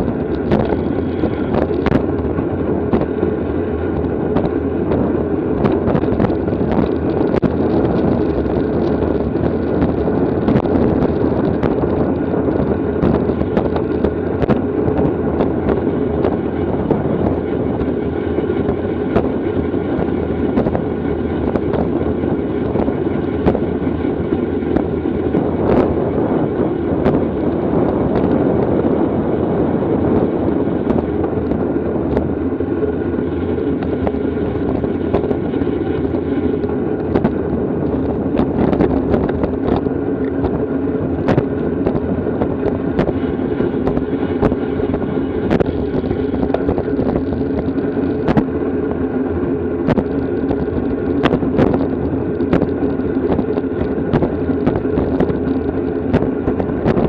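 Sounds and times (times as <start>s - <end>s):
sharp clicks and rattles: 0.0s - 28.4s, 30.1s - 49.0s, 49.8s - 57.0s
bicycle road noise: 0.0s - 57.0s
wind rushing over microphone: 0.0s - 57.0s.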